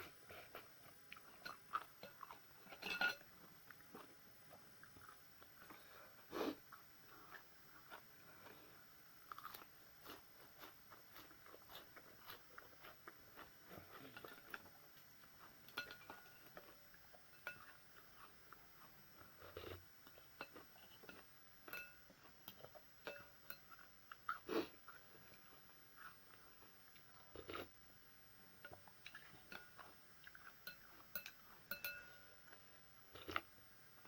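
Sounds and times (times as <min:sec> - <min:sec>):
person chewing and crunching food: 0:00.0 - 0:27.9, 0:28.5 - 0:34.0.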